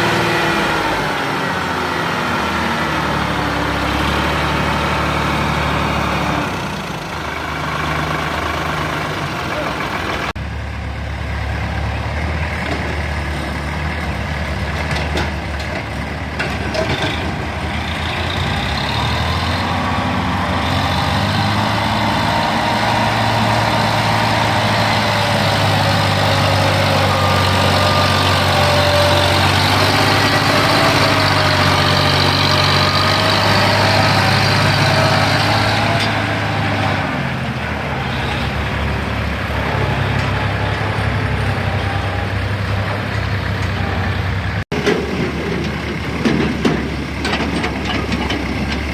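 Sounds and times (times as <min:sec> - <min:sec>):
diesel tractor engine running: 0:00.0 - 0:48.9.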